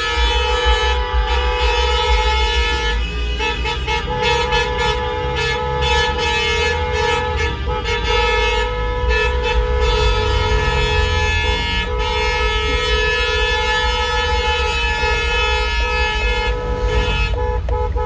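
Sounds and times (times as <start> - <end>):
car driving rumble: 0.0 - 18.0
car horns honking: 0.0 - 18.0.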